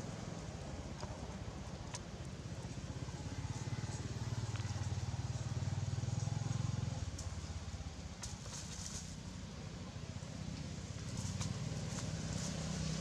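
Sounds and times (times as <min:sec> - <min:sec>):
vehicle engine rumble passing: 0:00.0 - 0:13.0.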